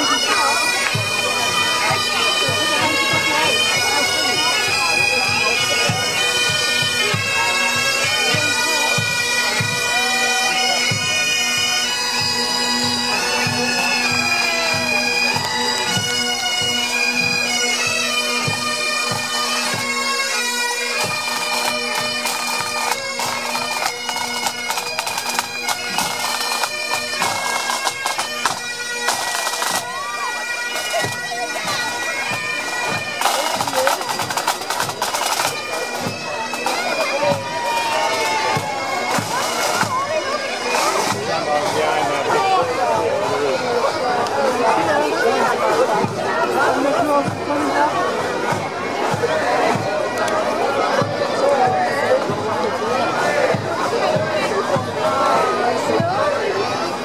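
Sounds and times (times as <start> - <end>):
bagpipes playing: 0.0 - 57.0.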